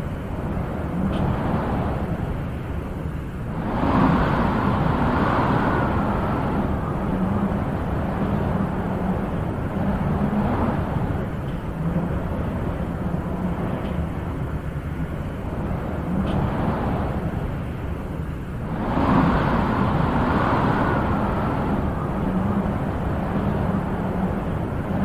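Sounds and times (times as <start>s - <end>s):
wind blowing in gusts: 0.0s - 25.0s.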